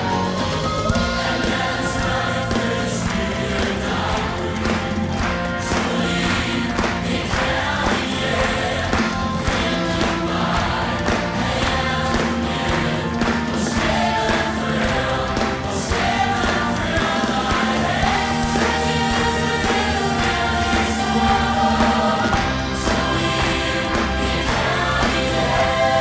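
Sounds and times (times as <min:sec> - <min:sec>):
band with steady beat: 0:00.0 - 0:26.0
ensemble singing in chorus: 0:00.0 - 0:26.0.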